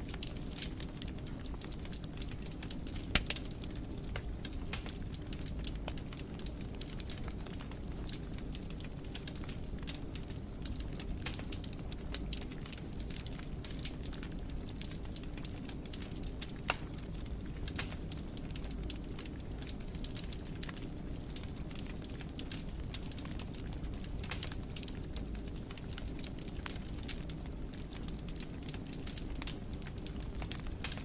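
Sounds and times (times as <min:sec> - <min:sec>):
fire crackling in a fireplace: 0:00.0 - 0:31.0.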